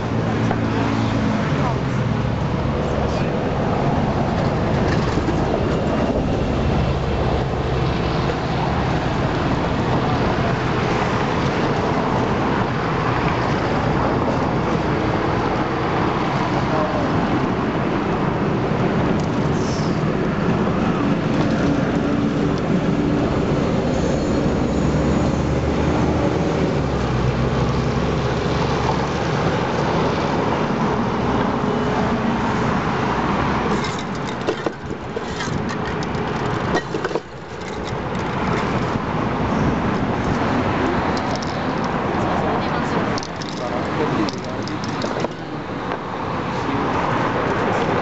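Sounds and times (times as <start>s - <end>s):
city traffic rumble: 0.0s - 48.0s.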